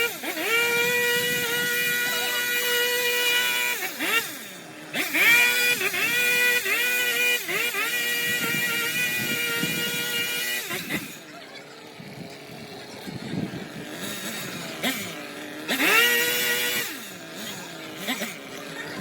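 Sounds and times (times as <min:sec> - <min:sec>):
power tool motor whining: 0:00.0 - 0:19.0.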